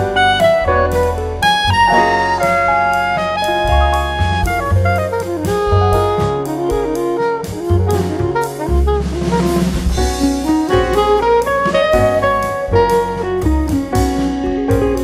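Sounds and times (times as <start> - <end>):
instrumental jazz music: 0.0 - 15.0.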